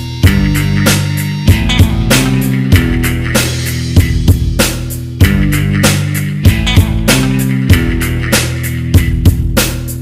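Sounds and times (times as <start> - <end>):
rock music: 0.0 - 10.0
drum hits: 0.2 - 9.7.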